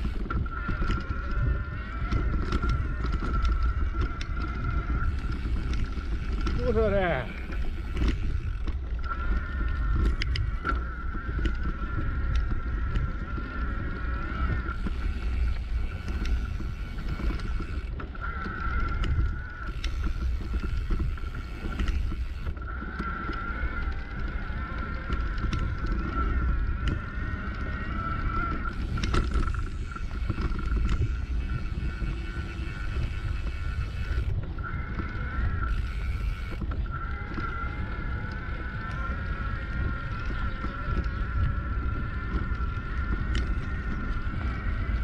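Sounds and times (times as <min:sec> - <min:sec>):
wind rumble on microphone: 0:00.0 - 0:45.0.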